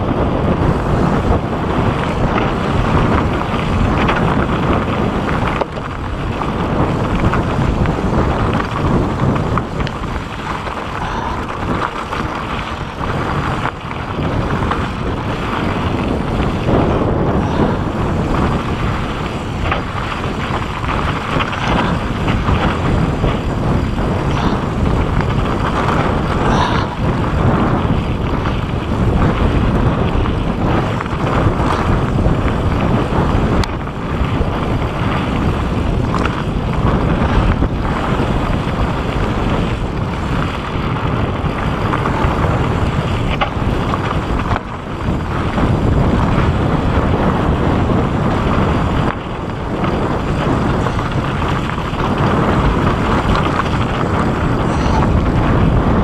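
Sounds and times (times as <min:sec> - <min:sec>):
bike knocking and rattling: 0:00.0 - 0:56.0
tyres rumbling over dirt: 0:00.0 - 0:56.0
wind buffeting microphone: 0:00.0 - 0:56.0.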